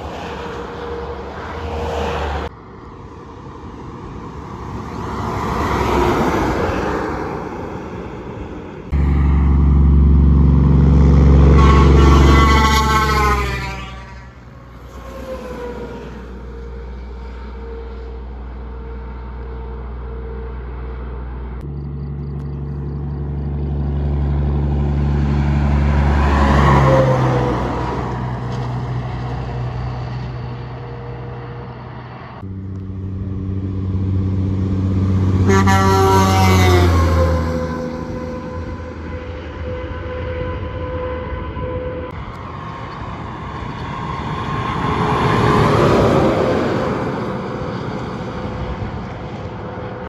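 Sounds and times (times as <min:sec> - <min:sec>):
diesel trucks driving past: 0:00.0 - 0:50.0.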